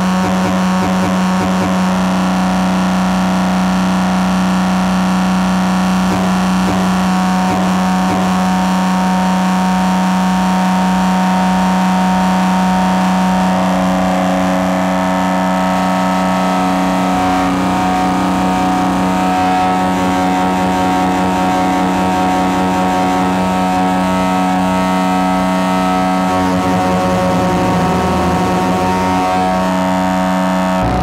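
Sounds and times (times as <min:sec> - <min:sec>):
distorted synthesizer drone: 0:00.0 - 0:31.0.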